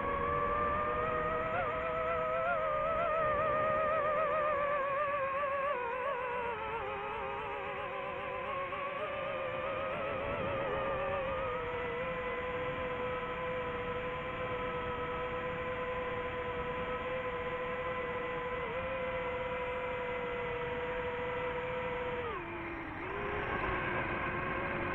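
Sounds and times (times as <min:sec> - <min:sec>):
drone propellers humming: 0:00.0 - 0:24.9.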